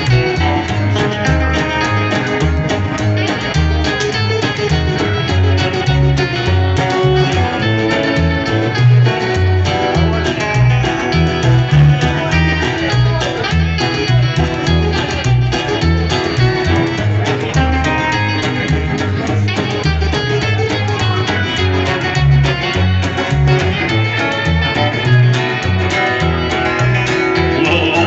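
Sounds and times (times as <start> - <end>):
picked electric guitar: 0.0 - 28.0
plucked double bass: 0.0 - 28.0
strummed acoustic guitar: 0.0 - 28.0.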